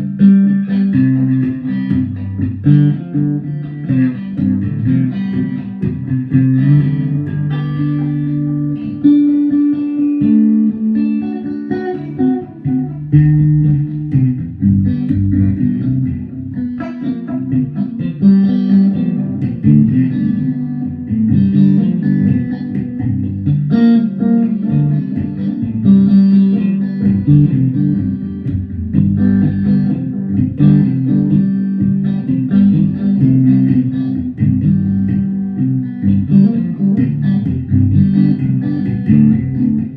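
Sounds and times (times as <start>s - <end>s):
guitar music: 0.0s - 39.9s.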